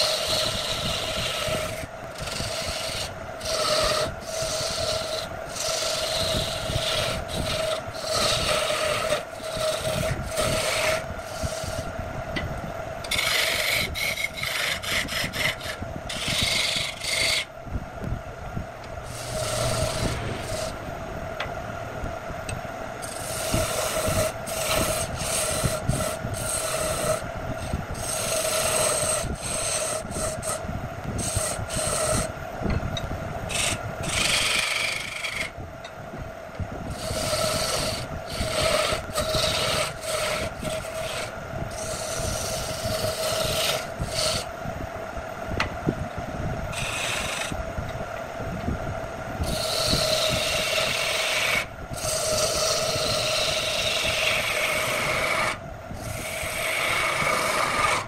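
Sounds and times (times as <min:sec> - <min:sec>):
turning tool rasping wood: 0:00.0 - 0:11.9, 0:13.0 - 0:17.5, 0:19.0 - 0:20.8, 0:23.0 - 0:32.3, 0:33.5 - 0:35.6, 0:36.9 - 0:44.5, 0:46.7 - 0:47.6, 0:49.4 - 0:58.0
wood lathe humming: 0:00.0 - 0:11.9, 0:13.0 - 0:17.5, 0:18.8 - 0:21.1, 0:22.4 - 0:30.6, 0:31.2 - 0:32.3, 0:33.5 - 0:35.6, 0:36.9 - 0:44.5, 0:46.7 - 0:47.7, 0:49.4 - 0:58.0.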